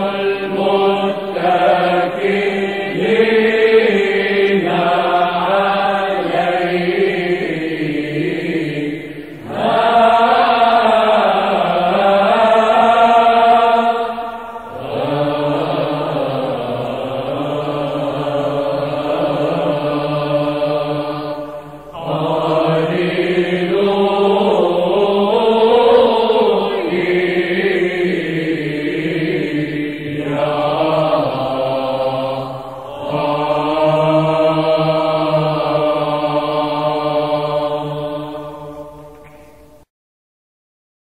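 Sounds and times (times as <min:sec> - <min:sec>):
low vocal drone: 0:00.0 - 0:39.3
church chant singing: 0:00.0 - 0:39.9.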